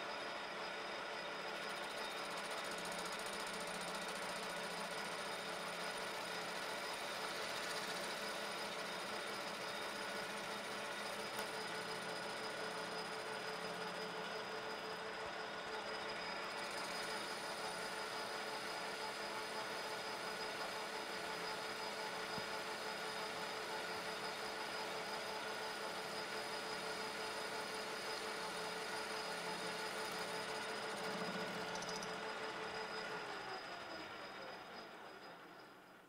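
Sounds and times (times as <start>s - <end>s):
metal lathe whining: 0.0s - 36.0s.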